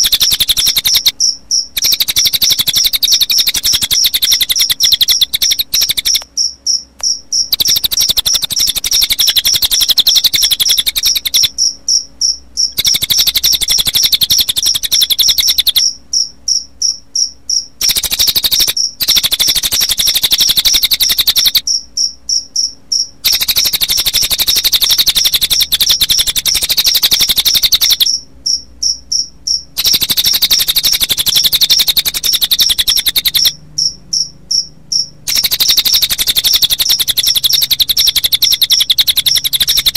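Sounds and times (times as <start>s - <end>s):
bird trilling: 0.0s - 39.9s
crickets chirping: 0.0s - 39.9s.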